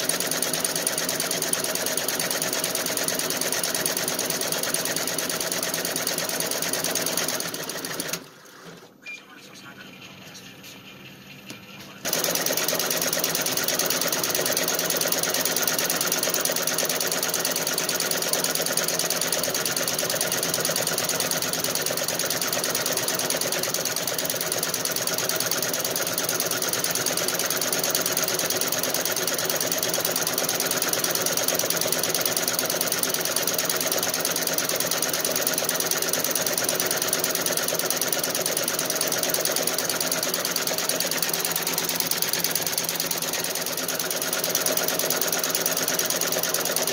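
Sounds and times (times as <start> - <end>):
embroidery machine needle clatter: 0.0 - 8.2, 12.1 - 46.9.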